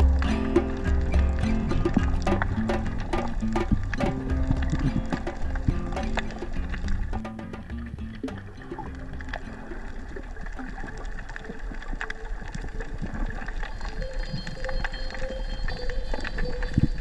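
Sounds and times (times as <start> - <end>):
muffled underwater rumble: 0.0 - 17.0
underwater clicks and crackles: 0.0 - 17.0.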